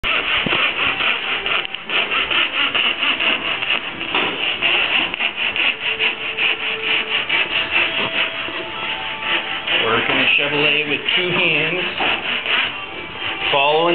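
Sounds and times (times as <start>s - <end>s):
fretsaw sawing through wood: 0.0s - 13.9s.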